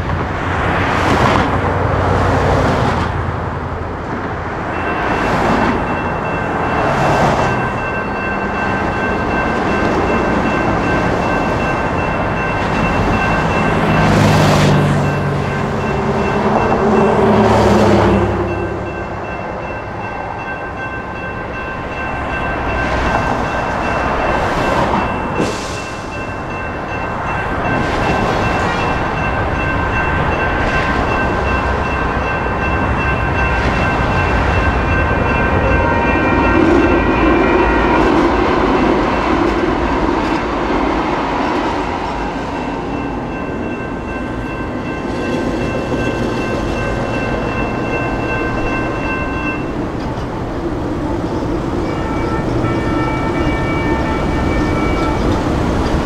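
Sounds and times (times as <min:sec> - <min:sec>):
passing train rumble: 0:00.0 - 0:56.0
road traffic: 0:00.0 - 0:56.0
railroad crossing bells ringing: 0:03.5 - 0:56.0.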